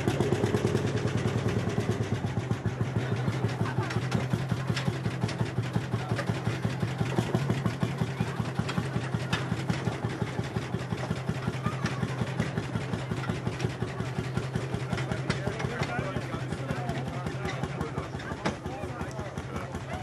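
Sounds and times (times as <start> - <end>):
tractor engine pulsing: 0.0 - 20.0.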